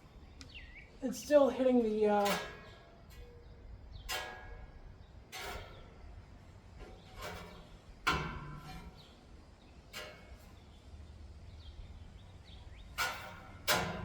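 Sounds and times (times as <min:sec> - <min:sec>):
fan blade clanking on metal: 0:01.5 - 0:14.0.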